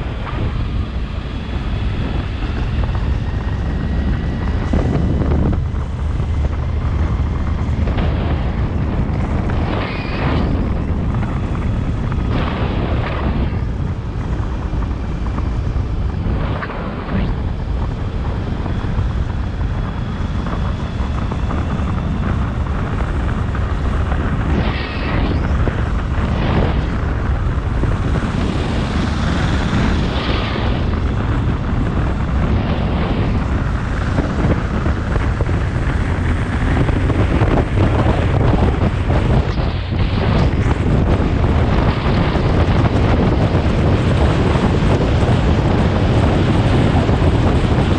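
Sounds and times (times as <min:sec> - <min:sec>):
motorcycle engine drone: 0:00.0 - 0:47.9
wind rushing over microphone: 0:00.0 - 0:47.9.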